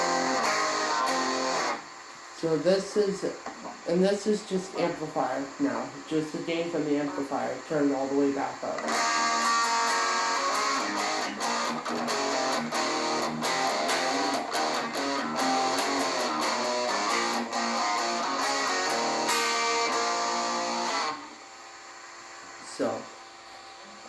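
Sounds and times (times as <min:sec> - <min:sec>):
overdriven electric guitar lead: 0:00.0 - 0:21.4.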